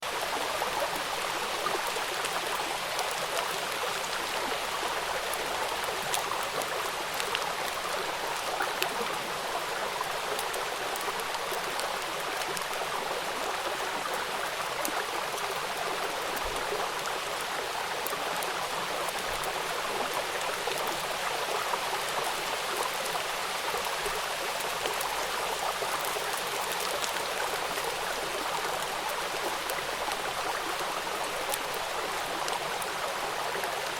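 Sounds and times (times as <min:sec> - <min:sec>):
rain falling on a river: 0:00.0 - 0:33.9.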